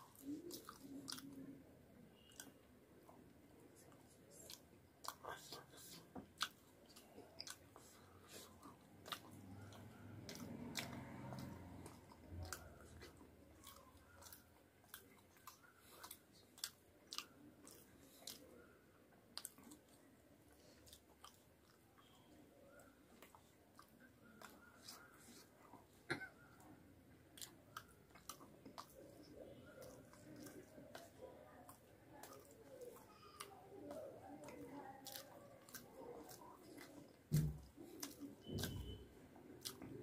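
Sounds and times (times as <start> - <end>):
close-up chewing with lip smacks: 0.0 - 40.0.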